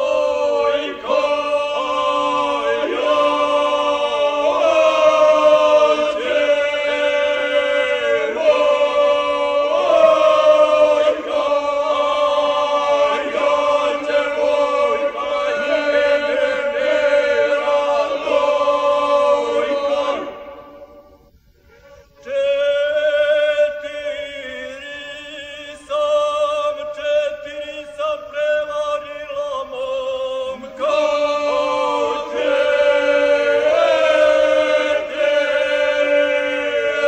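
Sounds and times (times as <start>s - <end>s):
low vocal drone: 0.0s - 37.0s.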